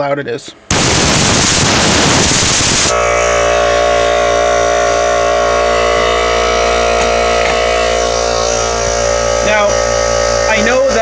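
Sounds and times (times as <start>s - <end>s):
air compressor running: 0.7s - 11.0s.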